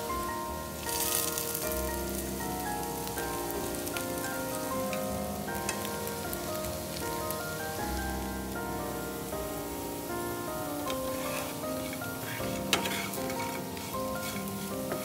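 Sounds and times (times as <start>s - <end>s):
background music sustained notes: 0.0s - 15.0s
potatoes sizzling in oil: 0.0s - 15.0s.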